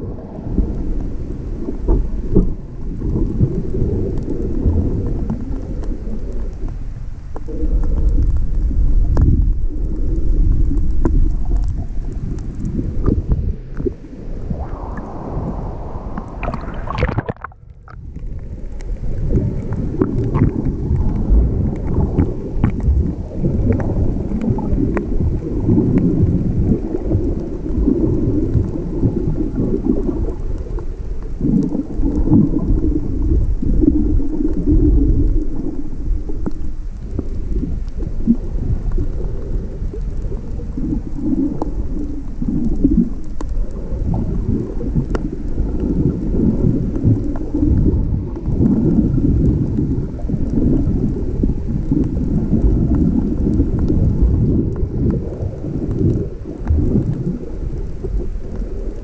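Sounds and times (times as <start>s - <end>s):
stormy sea water churning: 0.0s - 59.0s.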